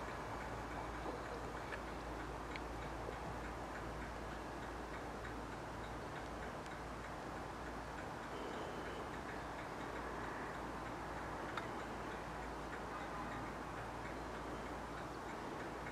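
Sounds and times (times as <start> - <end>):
faint ticks: 0.0 - 15.9.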